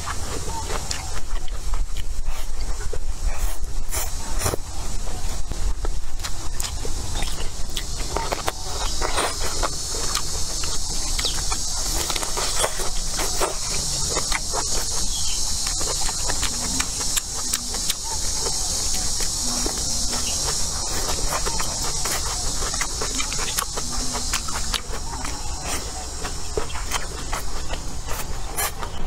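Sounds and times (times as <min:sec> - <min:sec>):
close-up chewing with mouth clicks: 0:00.0 - 0:29.0
insects droning: 0:00.0 - 0:29.0.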